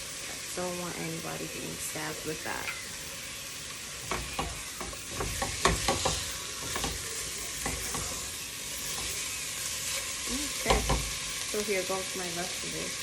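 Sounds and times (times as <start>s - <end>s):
chicken sizzling in a pot: 0.0s - 13.0s.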